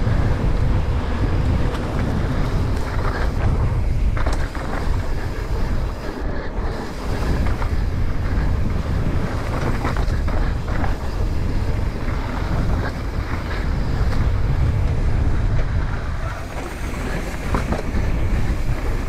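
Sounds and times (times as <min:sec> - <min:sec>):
tyres rolling over dirt: 0:00.0 - 0:19.0
wind buffeting microphone: 0:00.0 - 0:19.0.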